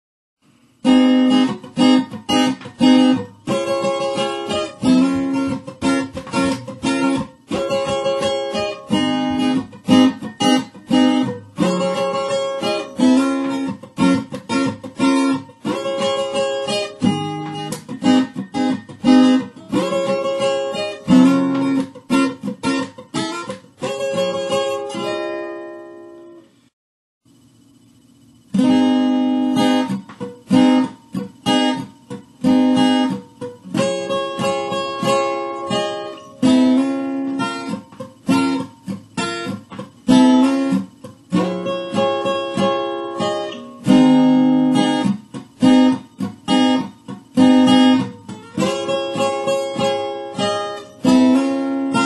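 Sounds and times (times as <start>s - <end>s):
acoustic guitar strumming: 0.8s - 26.5s, 28.5s - 52.0s.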